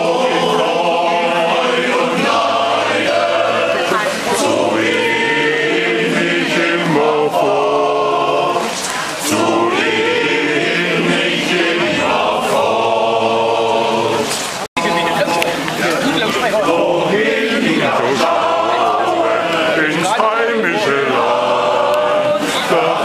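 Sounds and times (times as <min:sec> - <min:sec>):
men's choir singing a cappella: 0:00.0 - 0:14.6, 0:15.8 - 0:23.0.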